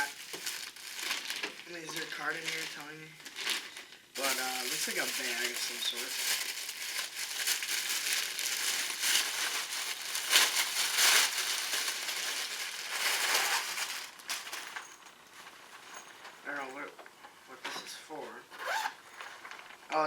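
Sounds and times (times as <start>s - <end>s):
packaging crinkling and rustling: 0.0s - 17.0s, 18.6s - 20.0s.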